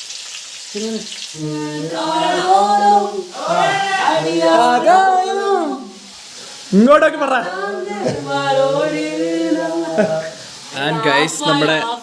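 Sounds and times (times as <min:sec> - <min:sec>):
person singing long notes: 0:00.7 - 0:06.1, 0:06.8 - 0:12.0.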